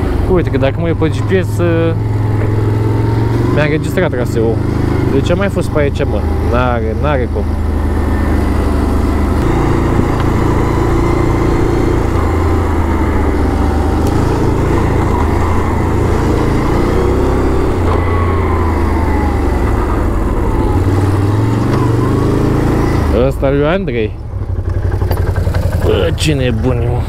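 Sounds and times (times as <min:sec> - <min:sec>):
quad bike engine revving: 0:00.0 - 0:27.0.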